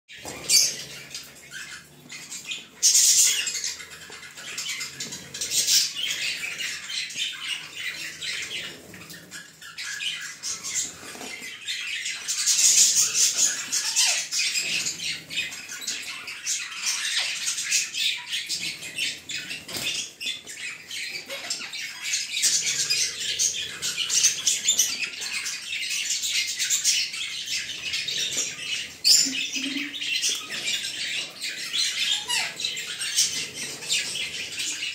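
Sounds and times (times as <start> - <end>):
budgerigars chattering and squawking: 0.1 - 34.9.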